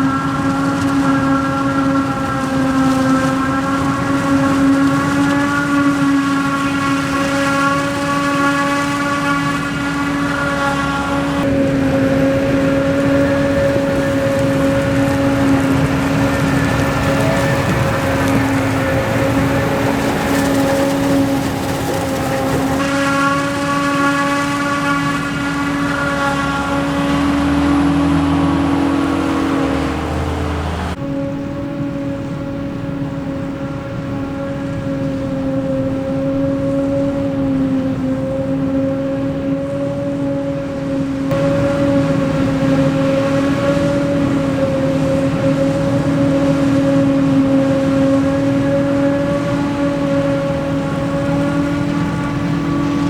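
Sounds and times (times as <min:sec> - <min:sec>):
engine humming: 0:00.0 - 0:53.0
harvest machinery whining: 0:00.0 - 0:53.0.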